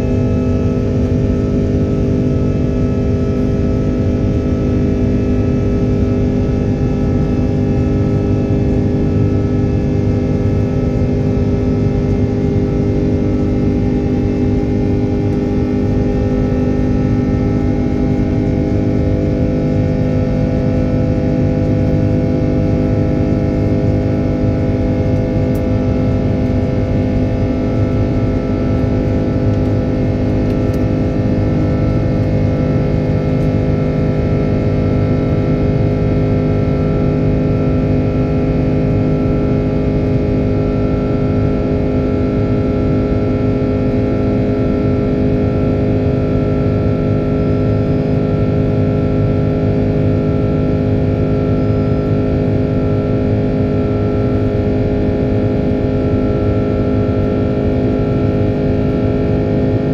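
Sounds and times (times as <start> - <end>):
jet engine cabin drone: 0.0 - 59.9.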